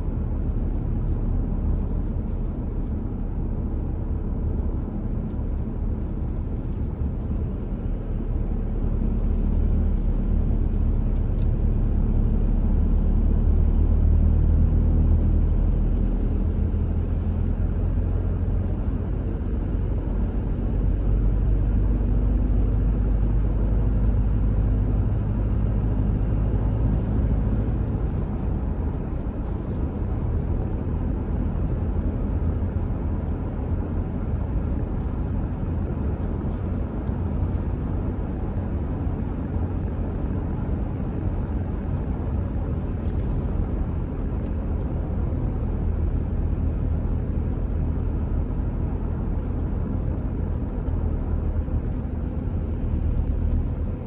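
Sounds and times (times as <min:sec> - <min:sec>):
car tyres and engine rumble: 0:00.0 - 0:54.0.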